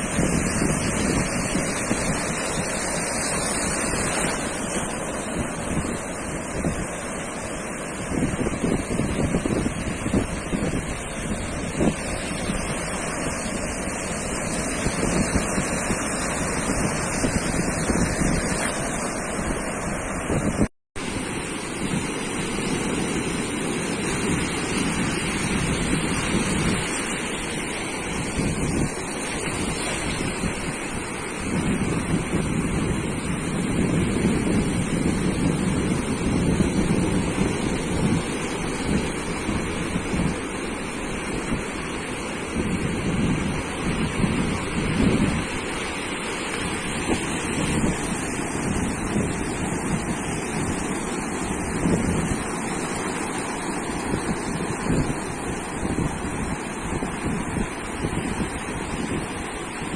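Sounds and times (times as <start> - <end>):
sea surf washing onto beach: 0.0 - 59.9
wind buffeting microphone: 0.0 - 59.9.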